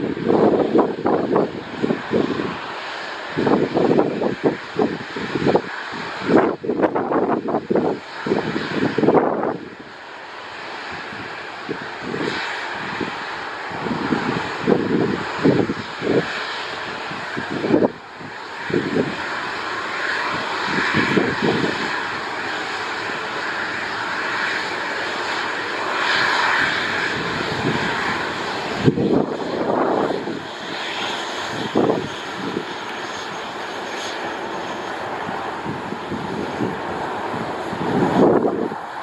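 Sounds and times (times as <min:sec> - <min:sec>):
jet engines running: 0:00.0 - 0:39.0
wind buffeting microphone: 0:00.0 - 0:39.0.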